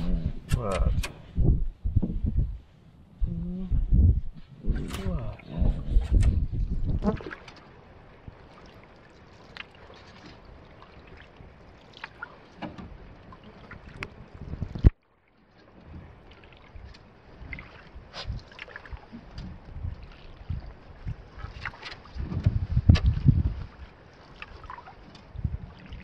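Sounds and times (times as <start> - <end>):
water lapping against hull: 0.0 - 26.0
paddle strokes in water: 4.3 - 26.0.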